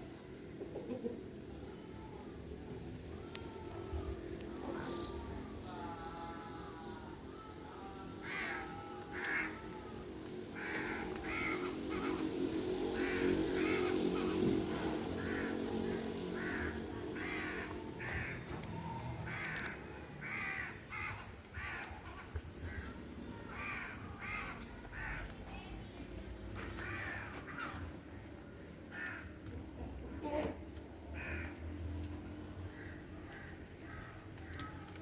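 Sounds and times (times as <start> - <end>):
crows cawing: 3.2 - 26.0, 26.6 - 29.6, 31.1 - 31.8, 32.6 - 35.0.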